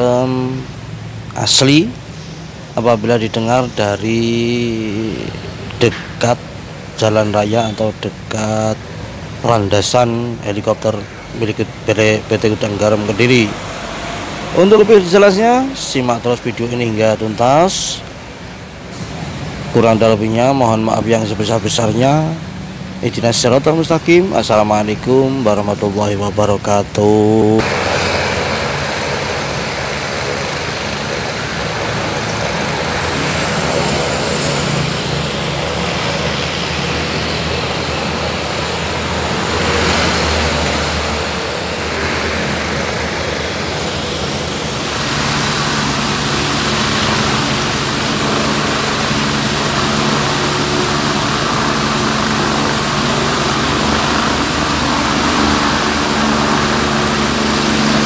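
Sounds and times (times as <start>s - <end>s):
helicopter engine warming up: 0.0s - 58.0s
motorbikes and cars passing: 0.0s - 58.0s.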